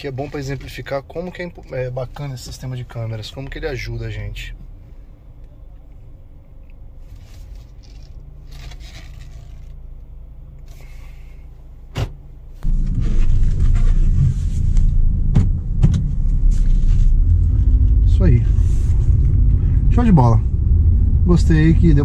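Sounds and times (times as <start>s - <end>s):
car driving on road rumble: 0.0s - 22.0s
car engine humming: 0.0s - 22.0s.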